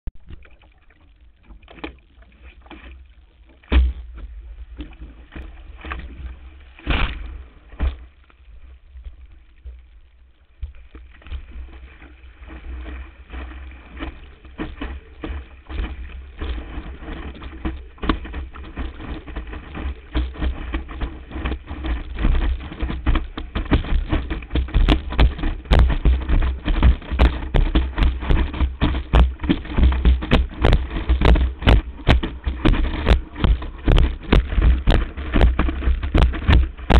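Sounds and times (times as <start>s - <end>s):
water slapping against board: 1.5s - 8.1s, 11.2s - 36.9s.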